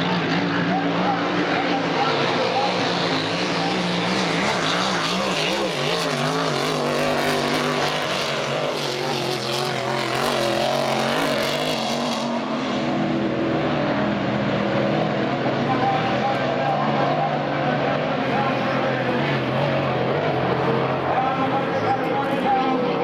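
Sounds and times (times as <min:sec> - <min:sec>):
racing boat engines droning: 0:00.0 - 0:23.0.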